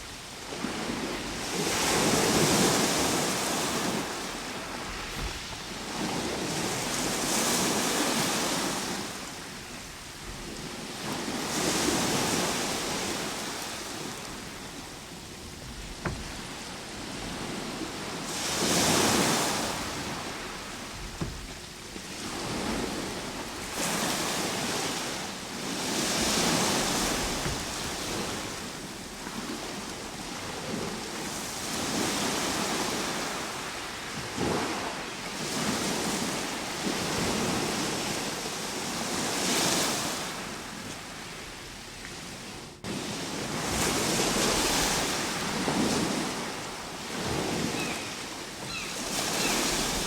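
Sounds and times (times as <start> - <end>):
ocean waves breaking: 0.0 - 41.5, 42.1 - 50.0.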